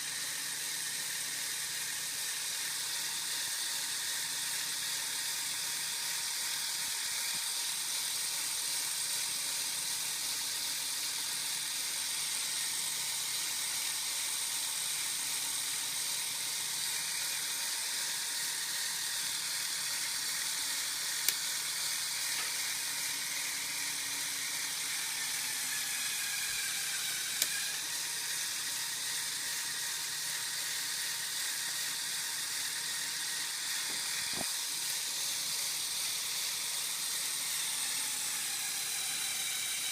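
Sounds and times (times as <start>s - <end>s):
toy motor and gears whirring: 0.0s - 39.9s.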